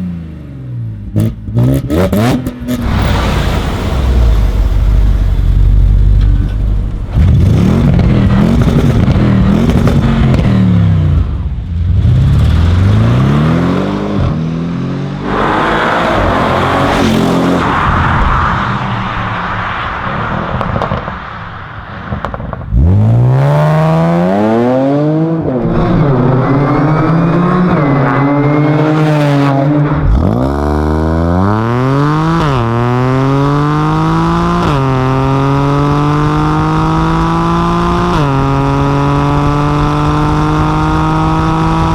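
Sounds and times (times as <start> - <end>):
wind and road noise: 0.0 - 41.9
car engine accelerating with upshifts: 6.1 - 21.3, 22.2 - 41.9.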